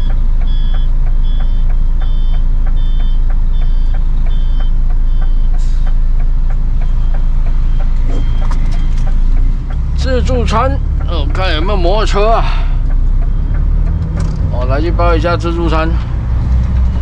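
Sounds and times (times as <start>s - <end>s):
high two-tone vehicle beeps: 0.0s - 15.9s, 16.7s - 17.0s
engine humming: 0.0s - 17.0s.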